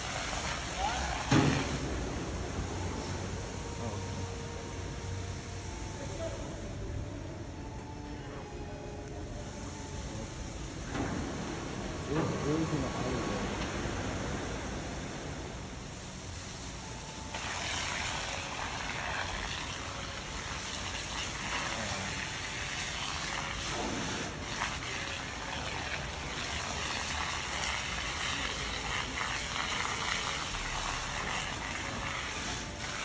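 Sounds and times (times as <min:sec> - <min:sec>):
fire hose spraying water: 0:00.0 - 0:06.6, 0:09.5 - 0:33.0.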